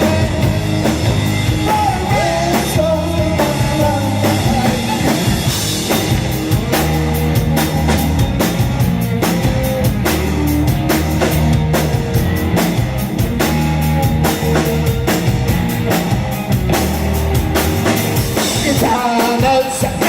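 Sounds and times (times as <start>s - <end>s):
bass guitar: 0.0s - 20.0s
drum kit beat: 0.0s - 20.0s
electric guitar: 0.0s - 20.0s.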